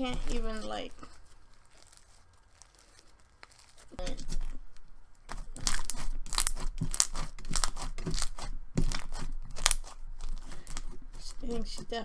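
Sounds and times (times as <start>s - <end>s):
slime squished by hand: 0.0s - 12.0s.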